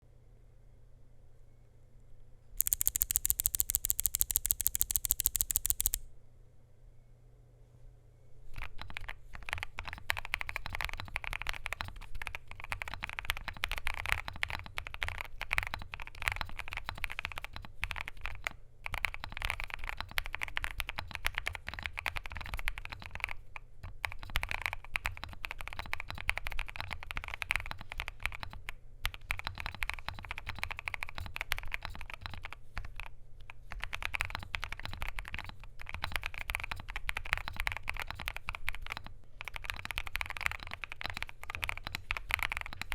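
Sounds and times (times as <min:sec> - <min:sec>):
fast mechanical keyboard typing: 0:02.6 - 0:06.0, 0:08.6 - 0:42.9.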